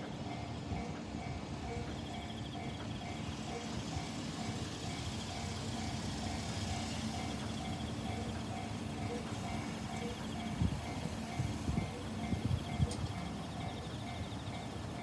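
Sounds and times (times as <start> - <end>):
railroad crossing alarm dinging: 0.0 - 15.0.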